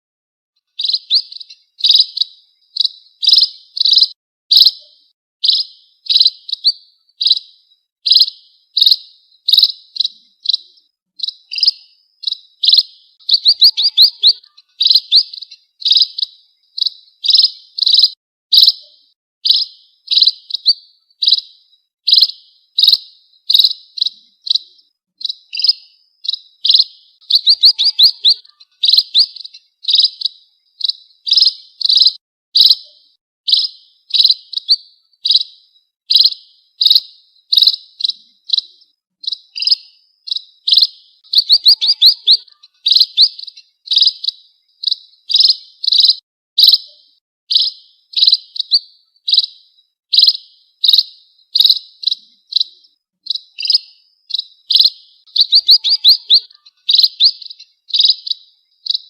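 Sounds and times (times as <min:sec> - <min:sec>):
bird chirps and rattling calls: 0:00.6 - 0:59.0.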